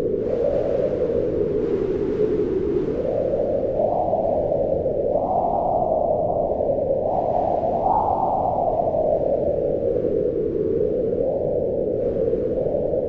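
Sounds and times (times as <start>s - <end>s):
strong wind howling in gusts: 0.0s - 13.0s.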